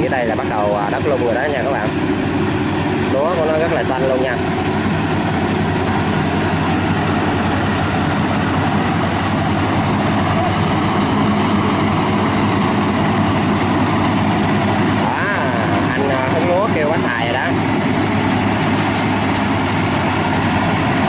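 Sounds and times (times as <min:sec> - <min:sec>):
combine harvester droning: 0:00.0 - 0:21.0.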